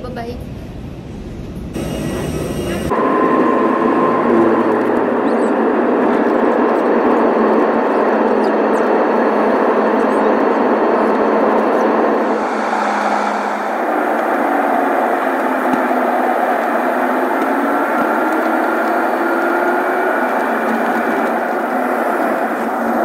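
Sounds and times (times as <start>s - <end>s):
faint engine whine: 0.4s - 23.0s
jet engines at takeoff thrust: 0.5s - 23.0s.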